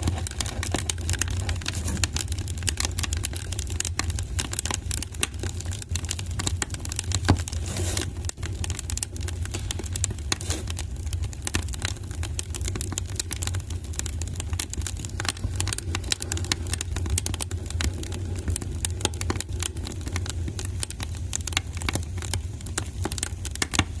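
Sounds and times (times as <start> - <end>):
fire crackling and popping: 0.0 - 24.0
low fire rumble: 0.0 - 24.0.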